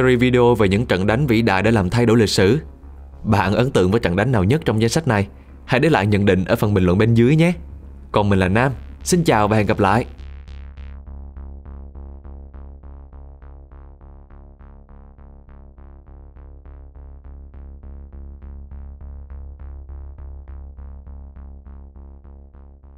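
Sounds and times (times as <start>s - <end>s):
pulsing synthesizer chords: 0.0s - 22.9s.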